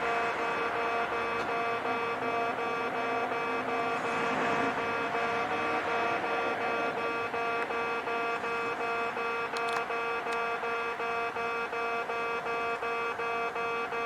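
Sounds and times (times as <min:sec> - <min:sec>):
level crossing buzzer pulsing: 0:00.0 - 0:14.0.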